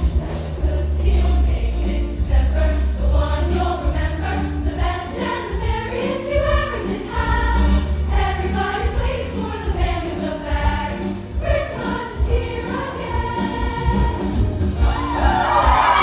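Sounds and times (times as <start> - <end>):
school choir singing: 0.0 - 16.0.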